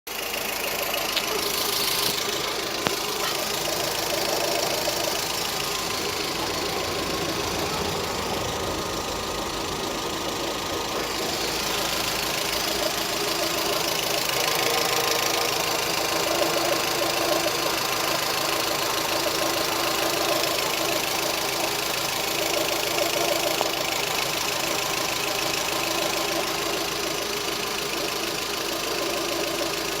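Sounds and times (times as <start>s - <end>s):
car engine running: 0.1s - 30.0s
strange engine noise: 0.1s - 30.0s.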